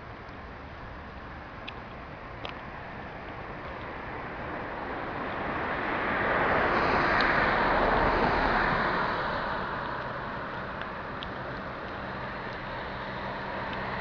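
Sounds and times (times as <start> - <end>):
car passing: 0.0 - 14.0.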